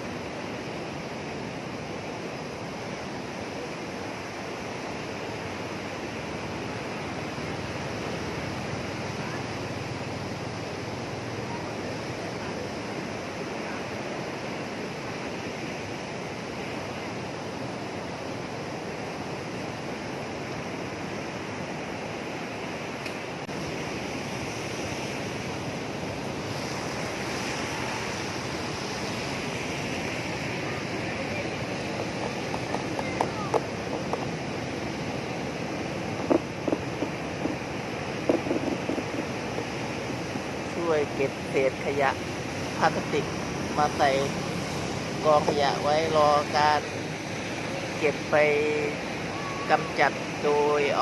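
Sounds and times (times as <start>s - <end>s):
waves breaking on beach: 0.0s - 51.0s
wind on microphone: 0.0s - 51.0s.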